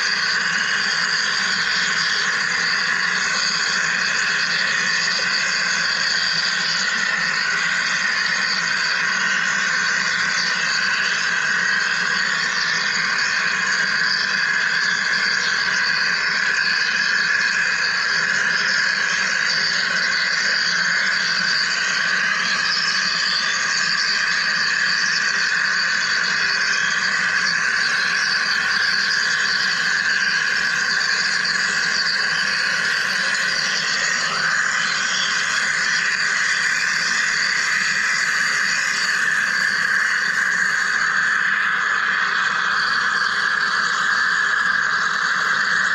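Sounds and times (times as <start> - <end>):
machine hissing buzz: 0.0 - 45.9.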